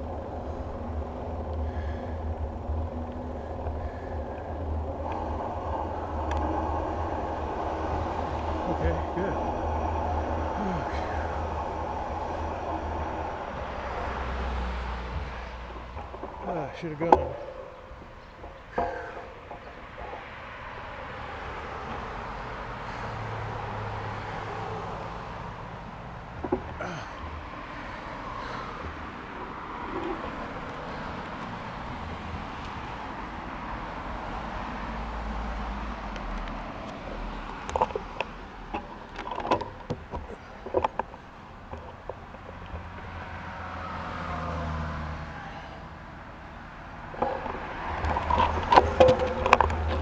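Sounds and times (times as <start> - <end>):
bicycle knocks and rattles: 0.0 - 23.2, 23.9 - 33.7, 36.0 - 43.4, 47.1 - 50.0
cars passing: 0.0 - 50.0.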